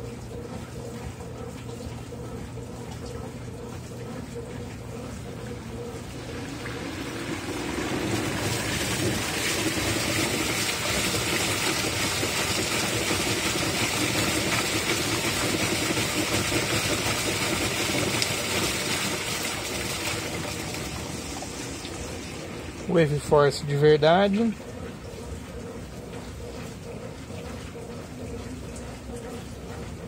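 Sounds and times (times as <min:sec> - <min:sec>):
washing machine churning water: 0:00.0 - 0:30.0.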